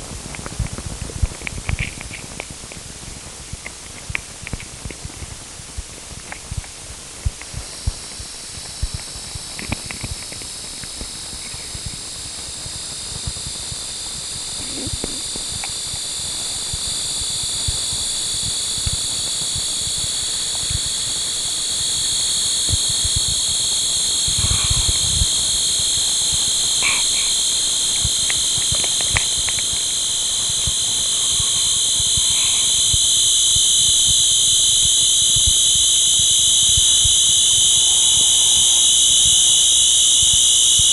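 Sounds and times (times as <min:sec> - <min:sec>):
low crackles and clicks: 0:00.0 - 0:40.9
piercing high electronic tones: 0:06.0 - 0:40.9.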